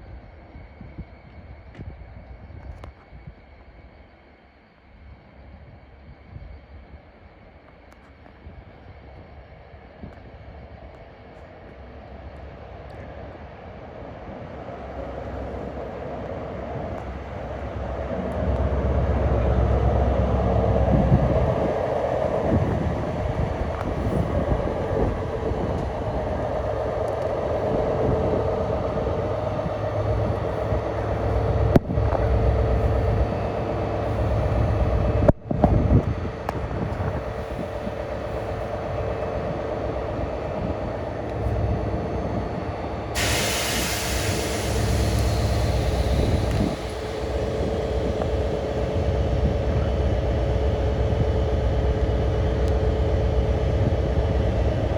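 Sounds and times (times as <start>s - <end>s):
diesel locomotive engine running: 0.0s - 54.9s.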